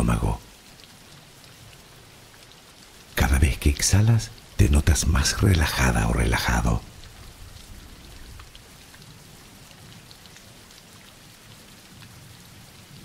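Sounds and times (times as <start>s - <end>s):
rain hiss: 0.0s - 13.0s
raindrops ticking: 0.0s - 13.0s.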